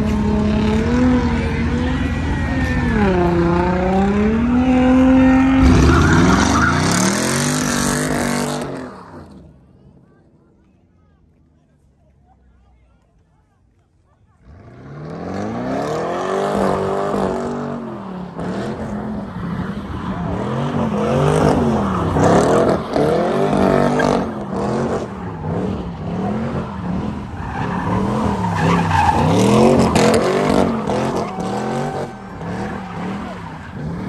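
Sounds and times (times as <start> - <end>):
tyres squealing on asphalt: 0.0 - 9.5, 14.3 - 34.0
car engine revving: 0.0 - 9.6, 14.4 - 34.0.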